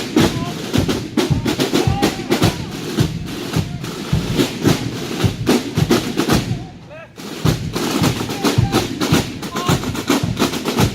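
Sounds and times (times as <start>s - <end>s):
snare and bass drums playing: 0.0s - 10.9s.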